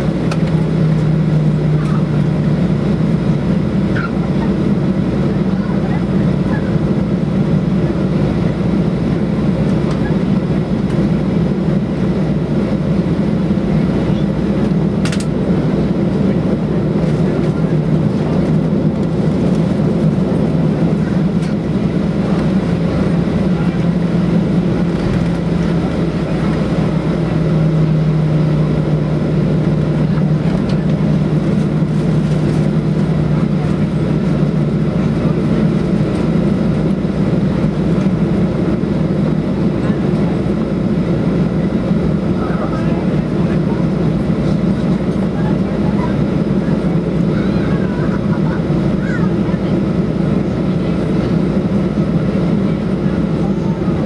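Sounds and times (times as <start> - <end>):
aircraft cabin engine hum: 0.0 - 54.0.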